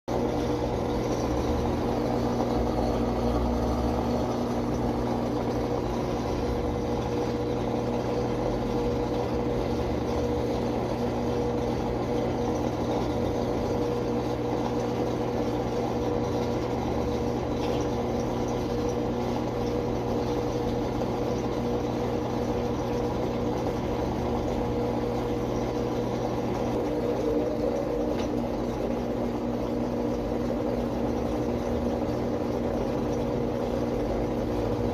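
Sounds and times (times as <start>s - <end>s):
washing machine motor humming: 0.1s - 34.9s.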